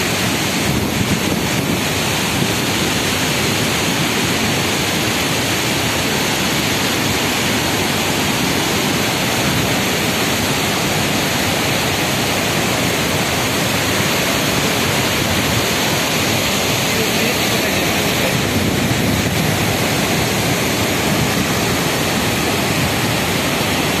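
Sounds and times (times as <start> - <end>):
waterfall and rapids rushing: 0.0 - 24.0.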